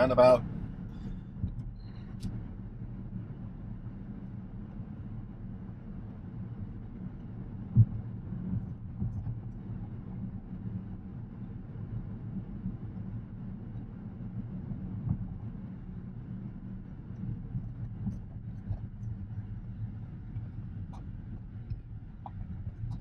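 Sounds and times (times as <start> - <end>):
road and tyre rumble: 0.0 - 23.0.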